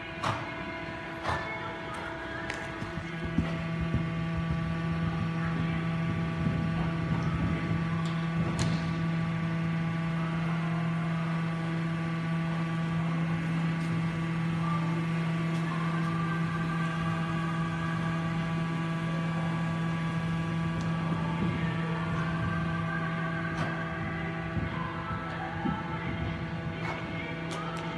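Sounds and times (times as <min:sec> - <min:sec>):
steady machine hum: 0:00.0 - 0:27.9.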